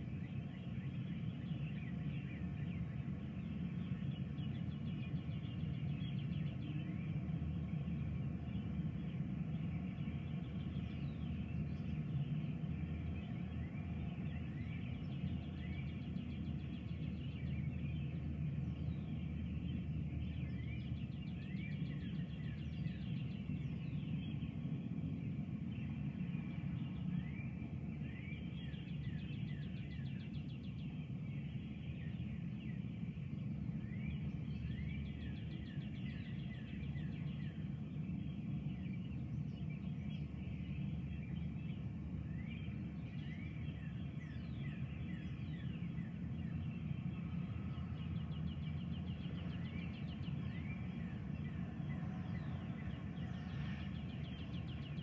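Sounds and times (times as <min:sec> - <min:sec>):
songbirds singing: 0:00.0 - 0:55.0
steady low rumble: 0:00.0 - 0:55.0.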